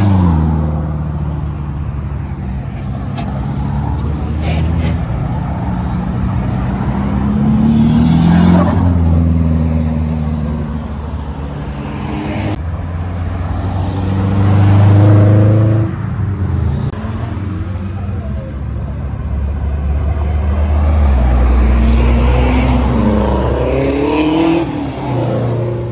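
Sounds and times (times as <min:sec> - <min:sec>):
car engines accelerating: 0:00.0 - 0:25.9.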